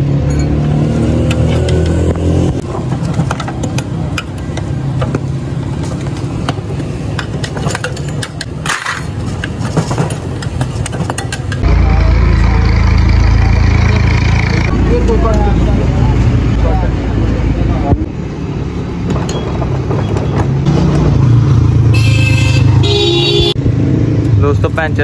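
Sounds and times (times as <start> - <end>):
engine hum: 0.0 - 25.0.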